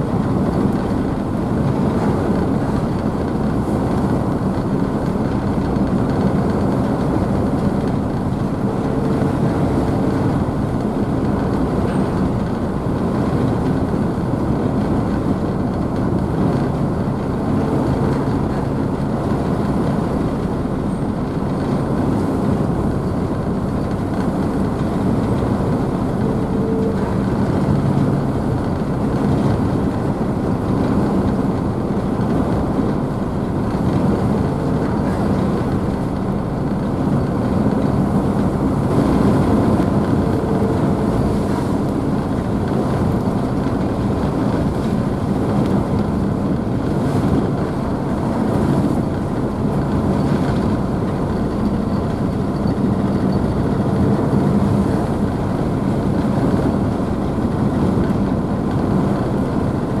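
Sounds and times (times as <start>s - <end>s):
ship engines humming: 0.0s - 59.9s
churning wake water: 0.0s - 60.0s
wind on microphone: 0.0s - 60.0s.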